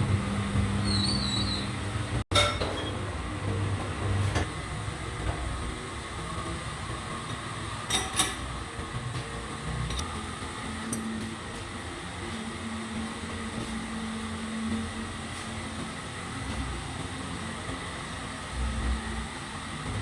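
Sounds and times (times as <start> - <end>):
workshop machinery hum: 0.0 - 20.0.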